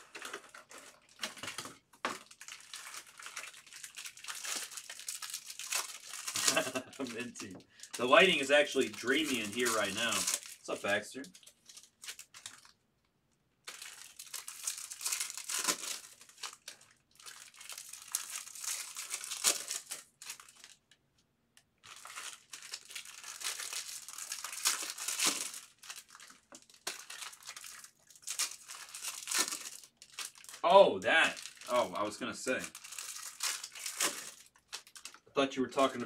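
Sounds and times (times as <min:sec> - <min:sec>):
card pack wrappers crinkling and tearing: 0:00.0 - 0:12.8, 0:13.6 - 0:21.0, 0:21.8 - 0:36.0.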